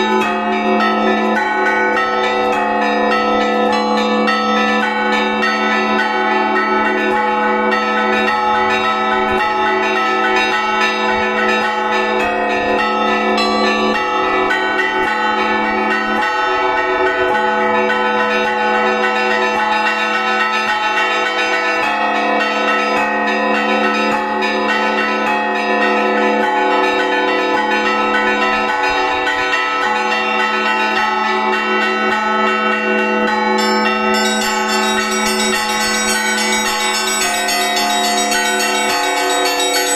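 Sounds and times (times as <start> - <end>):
church bells ringing together: 0.0 - 39.9.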